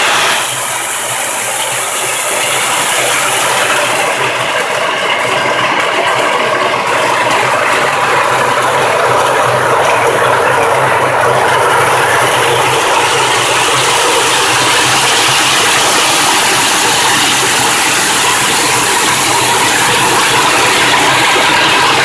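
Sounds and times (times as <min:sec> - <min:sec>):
machine motor mechanical rush: 0:00.0 - 0:22.0
water spraying inside drum: 0:00.0 - 0:22.0.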